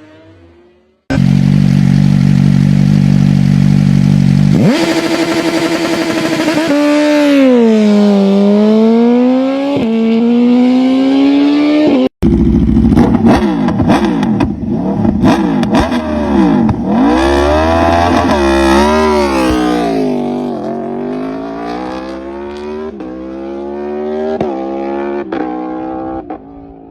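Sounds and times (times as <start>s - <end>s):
motorcycle engines revving: 0.0s - 26.9s.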